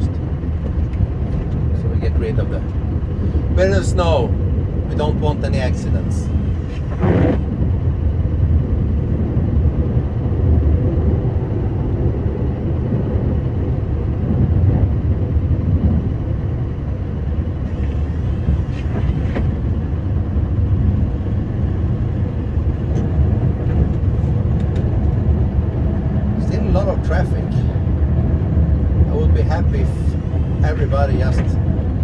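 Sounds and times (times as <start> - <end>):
truck diesel engine rumbling: 0.0 - 32.0.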